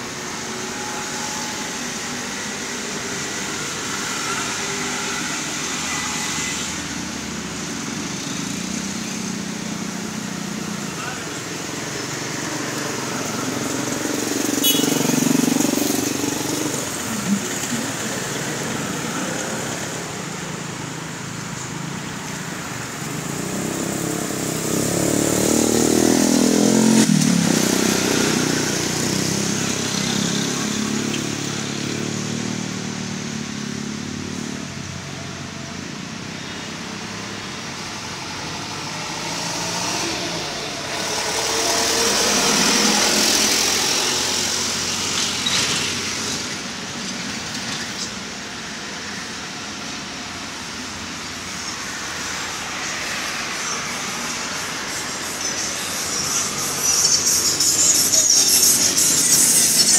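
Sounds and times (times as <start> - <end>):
steady road noise: 0.0 - 59.9
vehicles passing: 0.0 - 59.9.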